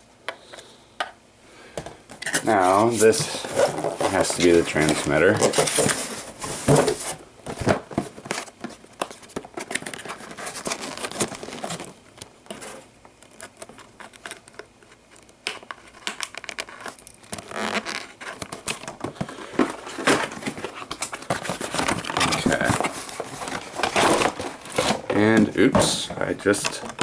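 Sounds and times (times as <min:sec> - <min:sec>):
plastic crinkling: 0:02.2 - 0:27.0.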